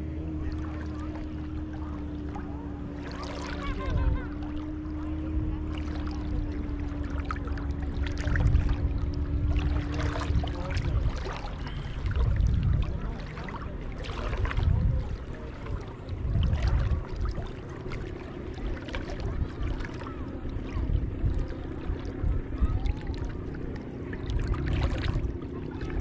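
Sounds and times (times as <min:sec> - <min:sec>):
faint motorboat hum: 0:00.0 - 0:26.0
low rumbling swells: 0:00.0 - 0:26.0
seawater sloshing and splashing: 0:00.0 - 0:26.0.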